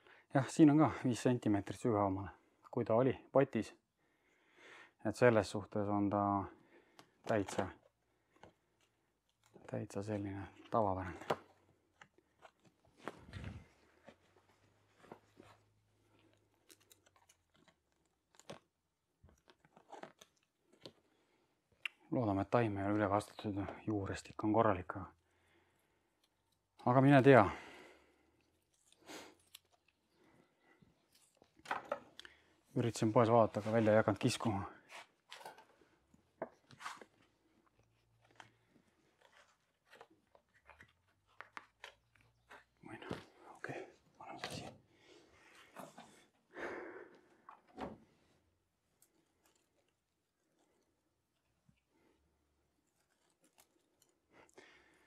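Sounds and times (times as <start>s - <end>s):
crackles of handling plants: 7.0s - 46.6s, 47.2s - 55.0s.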